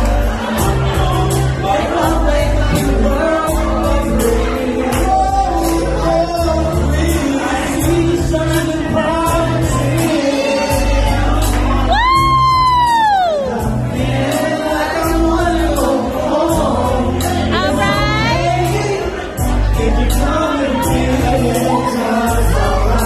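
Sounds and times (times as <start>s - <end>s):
backing music with deep bass: 0.0s - 23.0s
male vocal group singing: 0.0s - 23.0s.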